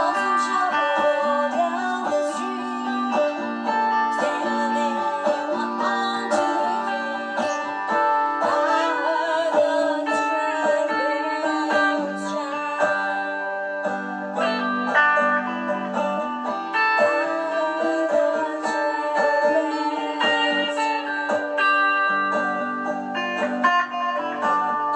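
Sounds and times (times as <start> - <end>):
electric banjo: 0.0 - 24.9
electric guitar: 0.0 - 24.9.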